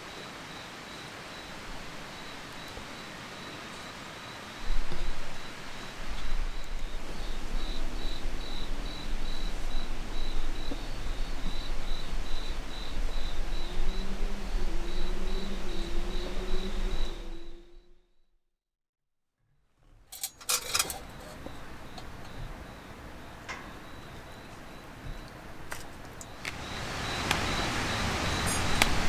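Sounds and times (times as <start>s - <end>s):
crickets chirping: 0.0s - 18.0s, 20.1s - 29.0s.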